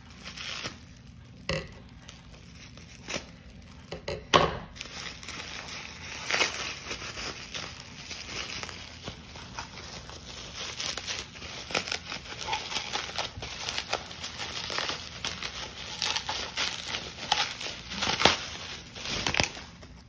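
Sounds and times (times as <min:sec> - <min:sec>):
bubble wrap crinkling: 0:00.0 - 0:04.0, 0:04.7 - 0:20.0.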